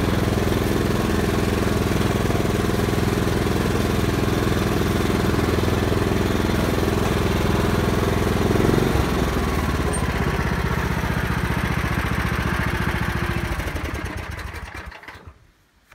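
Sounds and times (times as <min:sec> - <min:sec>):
riding lawn mower engine: 0:00.0 - 0:15.5.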